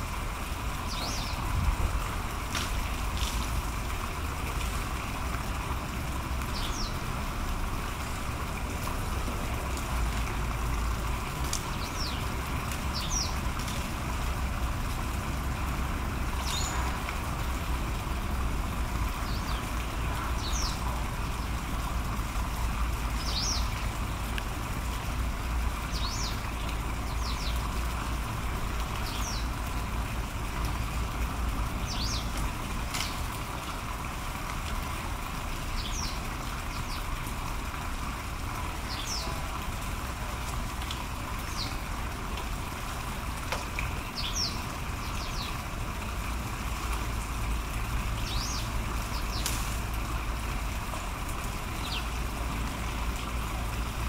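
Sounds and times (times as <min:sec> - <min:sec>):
low outdoor background rumble: 0:00.0 - 0:54.0.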